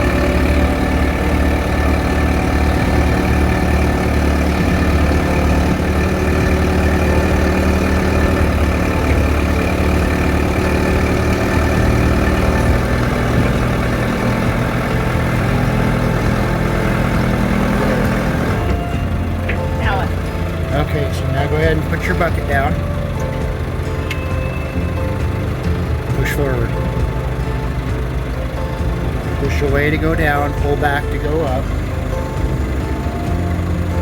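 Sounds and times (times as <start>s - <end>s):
backhoe engine running: 0.0s - 34.0s.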